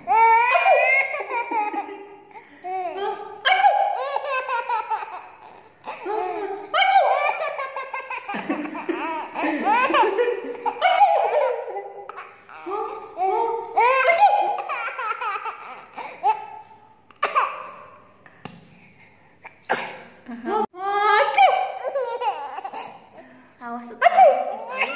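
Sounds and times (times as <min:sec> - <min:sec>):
baby laughing: 0:00.0 - 0:17.9, 0:21.8 - 0:23.2, 0:24.2 - 0:24.9.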